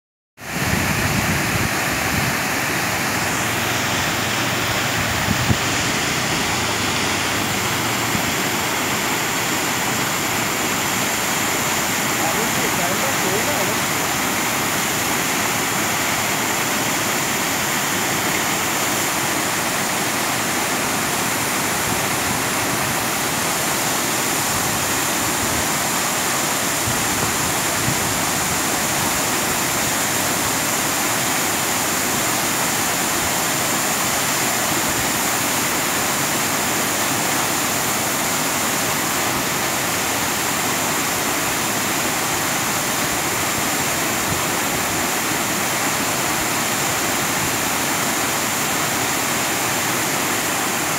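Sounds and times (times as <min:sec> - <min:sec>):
waterfall rushing: 0:00.4 - 0:50.9.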